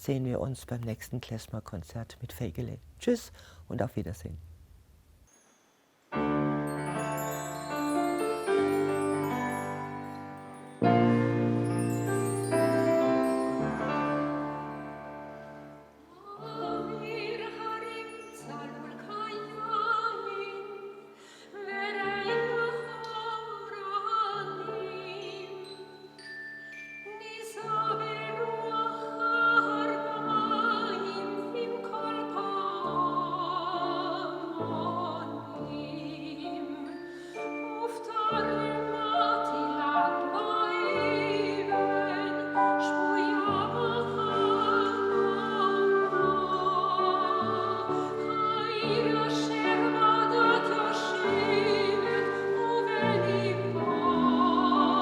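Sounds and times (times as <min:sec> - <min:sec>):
piano: 0:06.1 - 0:55.0
person singing with vibrato: 0:06.3 - 0:55.0.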